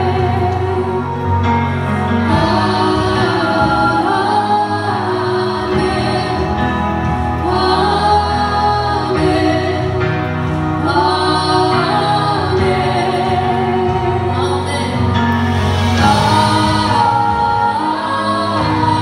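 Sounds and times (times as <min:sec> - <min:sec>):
women singing through microphones: 0:00.0 - 0:19.0.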